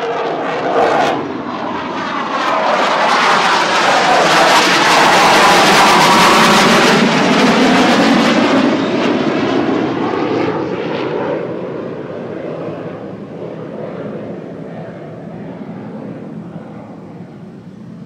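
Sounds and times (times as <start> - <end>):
jets passing low: 0.0 - 18.0.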